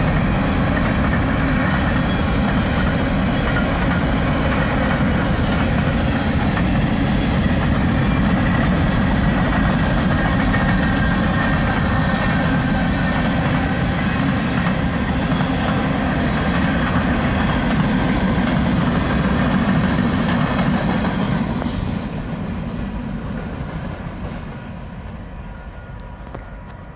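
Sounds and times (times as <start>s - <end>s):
freight train cars rolling past: 0.0s - 26.9s.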